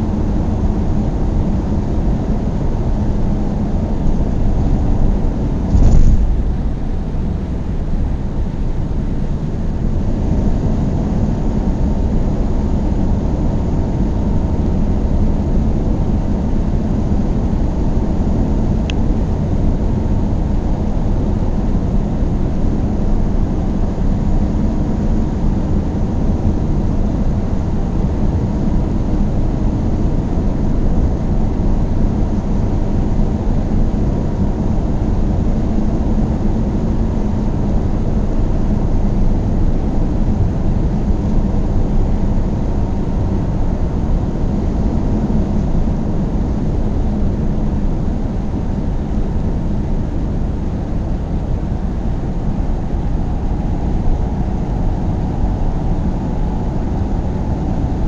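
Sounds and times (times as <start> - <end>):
car engine rumble: 0.0 - 25.1, 31.8 - 58.0
faint steady hum: 0.0 - 58.0.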